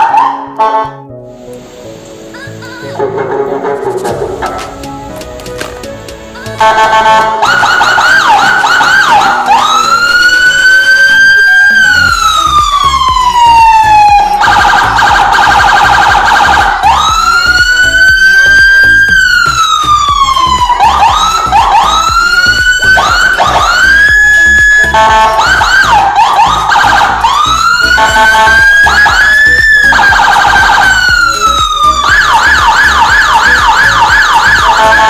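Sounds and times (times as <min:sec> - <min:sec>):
electronic vehicle siren: 0:06.6 - 0:35.0.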